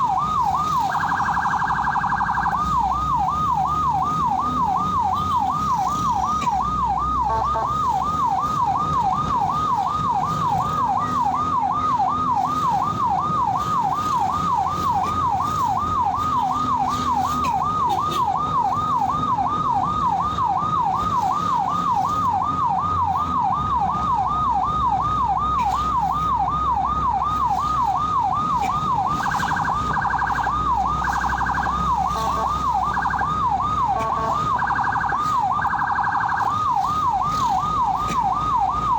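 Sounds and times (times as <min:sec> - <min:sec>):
ambulance siren yelping: 0:00.0 - 0:38.9
vehicle rumble on road: 0:00.0 - 0:38.9.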